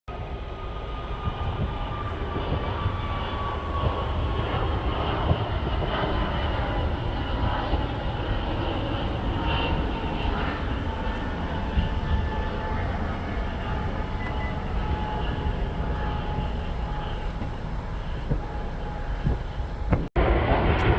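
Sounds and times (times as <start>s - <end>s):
airliner engines rumbling: 0.1s - 20.9s
faint engine whine: 0.1s - 20.9s.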